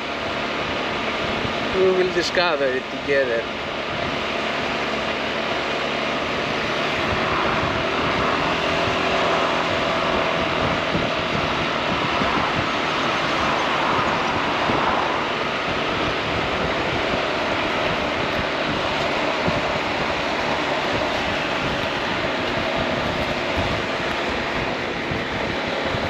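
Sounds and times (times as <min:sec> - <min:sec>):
low wind buffeting: 0:00.0 - 0:26.0
wind and road noise: 0:00.0 - 0:26.0.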